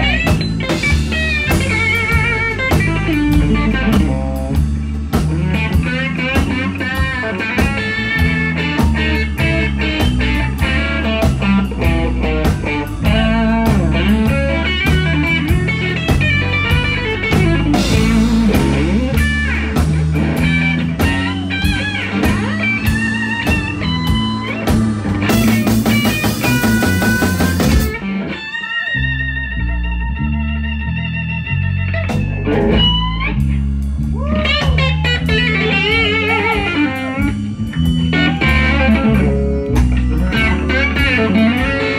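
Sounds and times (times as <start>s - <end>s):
bass guitar: 0.0s - 41.9s
drums: 0.0s - 41.9s
electric guitar lines: 0.0s - 41.9s.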